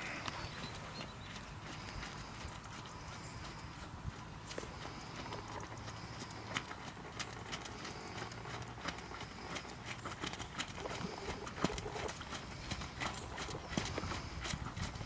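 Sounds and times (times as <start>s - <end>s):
horse hoofbeats on wet sand: 0.0s - 15.0s.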